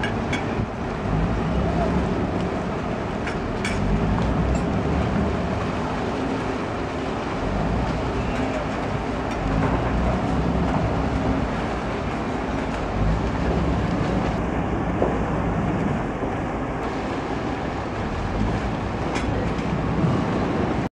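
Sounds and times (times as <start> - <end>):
motorboat engines rumbling: 0.0 - 20.9.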